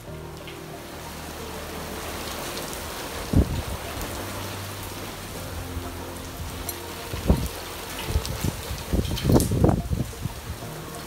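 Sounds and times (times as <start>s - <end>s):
rain and wind hiss: 0.0s - 11.0s
wind gusts hitting microphone: 1.2s - 10.9s.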